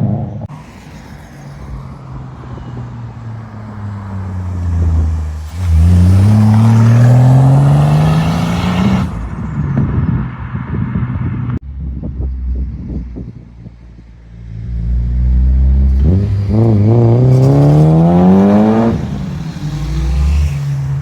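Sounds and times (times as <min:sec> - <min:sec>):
car engine accelerating: 0:00.5 - 0:21.0.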